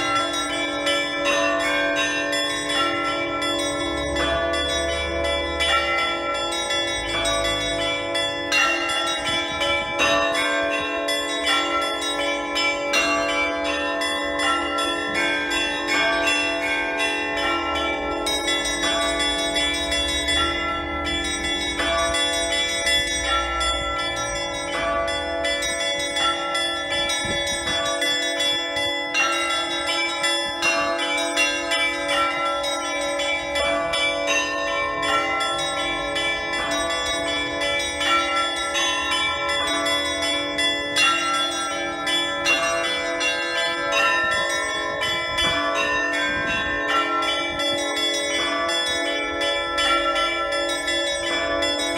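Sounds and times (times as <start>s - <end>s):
large bell ringing: 0.0s - 51.9s
small bells rung rhythmically: 0.0s - 51.9s.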